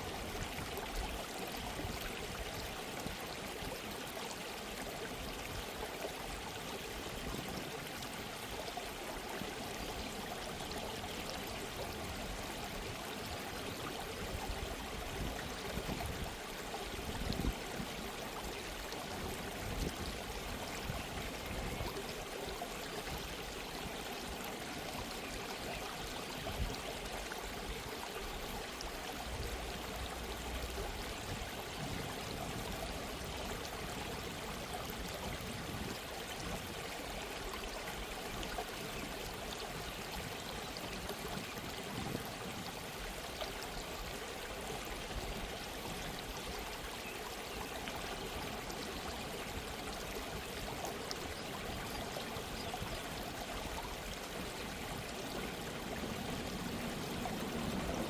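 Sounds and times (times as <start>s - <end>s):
stream babbling over stones: 0.0s - 58.0s.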